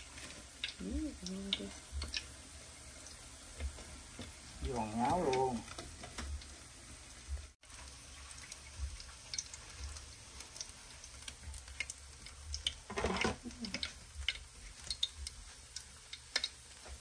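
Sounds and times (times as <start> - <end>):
hot oil crackling and popping: 0.0 - 17.0.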